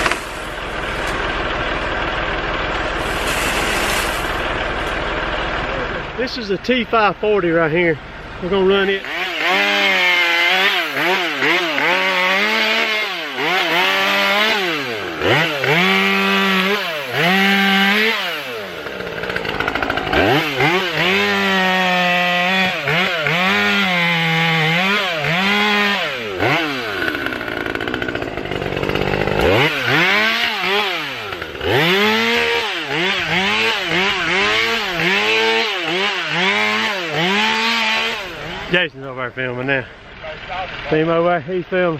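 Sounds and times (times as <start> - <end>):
chainsaw cutting wood: 0.0 - 5.7, 8.8 - 38.7.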